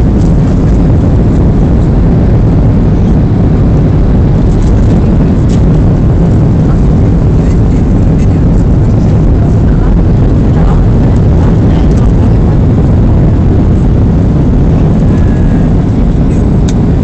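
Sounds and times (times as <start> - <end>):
jet engine cabin rumble: 0.0 - 17.0
rushing air: 0.0 - 17.0.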